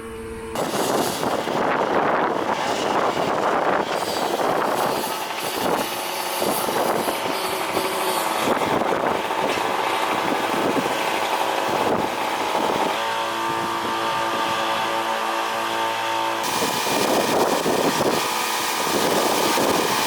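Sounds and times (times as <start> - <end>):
vehicle engine running: 0.0 - 20.0
wind-like noise: 0.6 - 14.6, 16.4 - 20.0.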